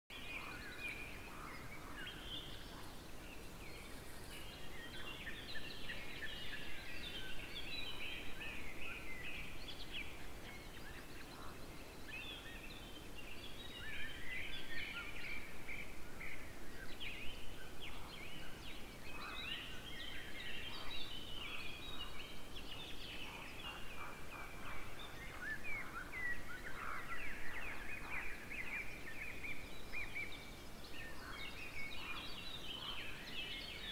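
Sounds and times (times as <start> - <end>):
faint steady hiss: 0.1 - 33.9
wild birds singing and calling: 0.1 - 33.9.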